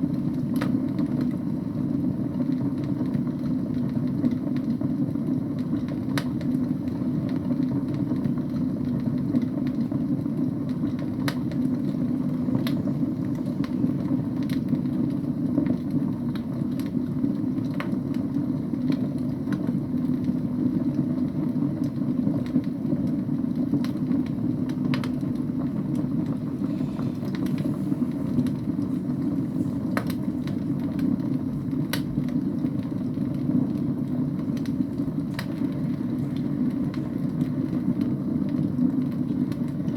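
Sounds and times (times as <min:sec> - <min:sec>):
fire flames burning: 0:00.0 - 0:39.9
logs crackling and popping: 0:05.6 - 0:39.9.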